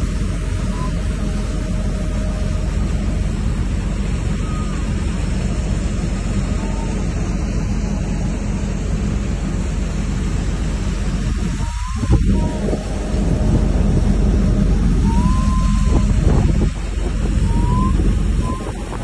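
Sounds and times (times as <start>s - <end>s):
ship machinery rumble: 0.0s - 19.0s
wind rushing over deck: 0.0s - 19.0s.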